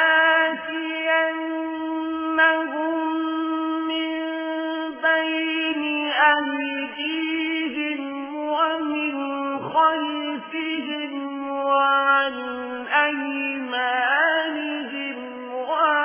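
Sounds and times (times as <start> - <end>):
person reciting melodically: 0.0 - 16.0.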